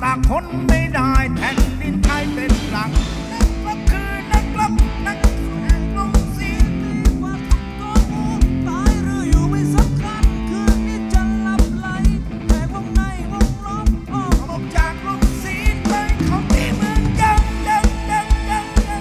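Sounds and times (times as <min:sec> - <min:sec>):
bass notes: 0:00.0 - 0:19.0
drum kit beat: 0:00.0 - 0:19.0.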